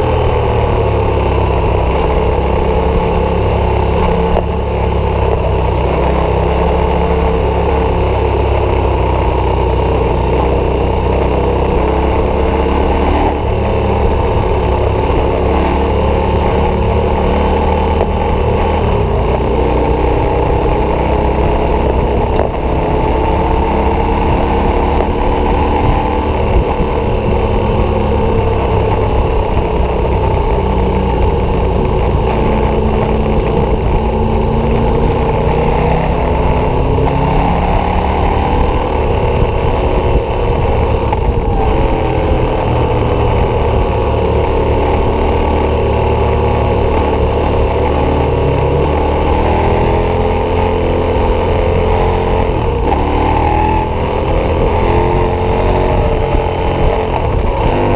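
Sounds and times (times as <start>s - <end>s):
motorcycle engine at road speed: 0.0s - 57.9s.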